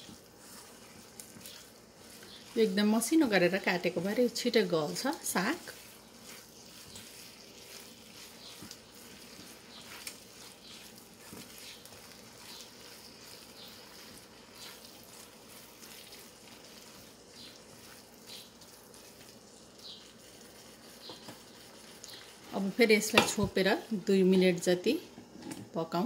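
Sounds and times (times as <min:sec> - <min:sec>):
wooden spatula scraping a pan: 0:00.0 - 0:23.9
vegetables sizzling in a pan: 0:00.0 - 0:25.0.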